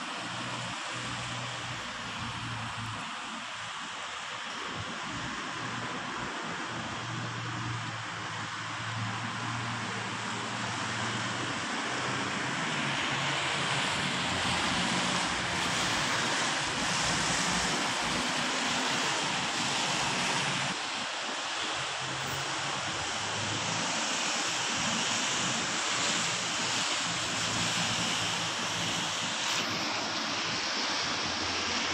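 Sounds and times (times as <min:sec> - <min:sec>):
tyres hissing on road: 0:00.0 - 0:31.9.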